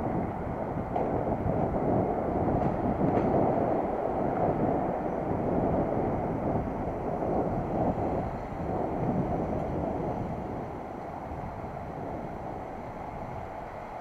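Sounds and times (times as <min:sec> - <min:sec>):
road rumble: 0:00.0 - 0:14.0
wind buffeting microphone: 0:00.0 - 0:14.0.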